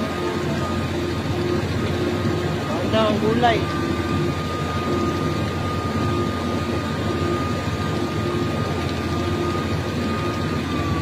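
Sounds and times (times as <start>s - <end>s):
heavy vehicle engine droning: 0.0s - 11.0s
thin steady whine: 0.0s - 11.0s.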